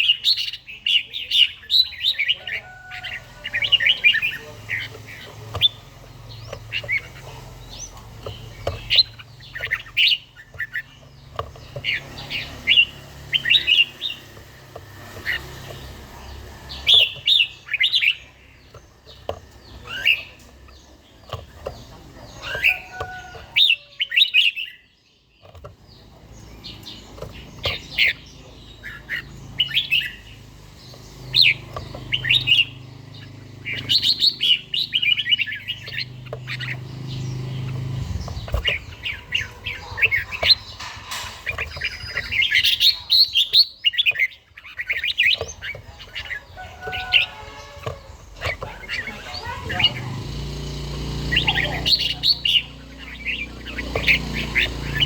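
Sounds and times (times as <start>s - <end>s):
bird singing warbling phrases: 0.0s - 55.0s.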